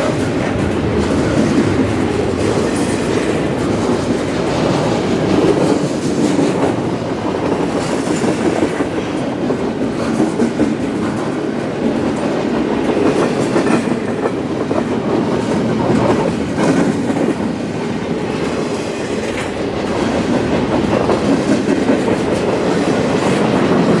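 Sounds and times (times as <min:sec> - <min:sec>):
freight train wheels rumbling: 0:00.0 - 0:24.0
wheels clacking over rail joints: 0:00.0 - 0:24.0.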